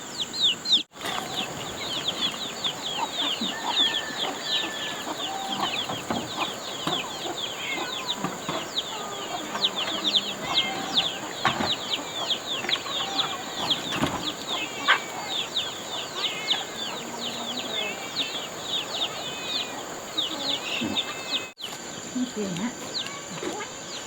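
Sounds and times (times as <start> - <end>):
chicks peeping: 0.0 - 24.0
hen clucking: 0.1 - 21.6.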